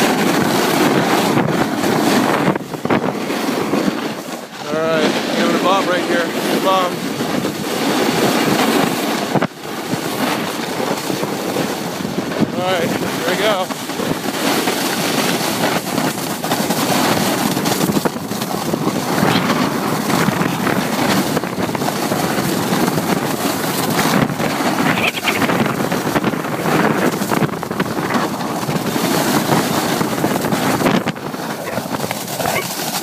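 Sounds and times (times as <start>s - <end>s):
snowboard scraping over snow: 0.0s - 33.0s
wind rushing over microphone: 0.0s - 33.0s.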